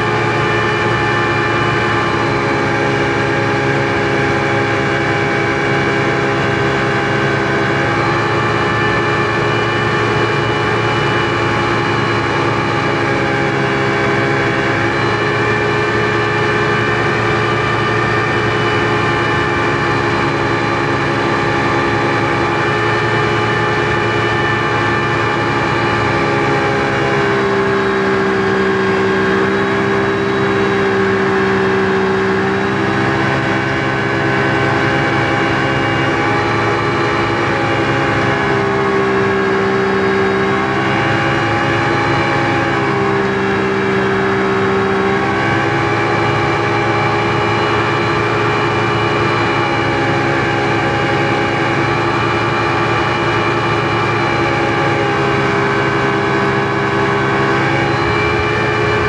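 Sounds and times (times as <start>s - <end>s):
speedboat engine running: 0.0s - 59.0s.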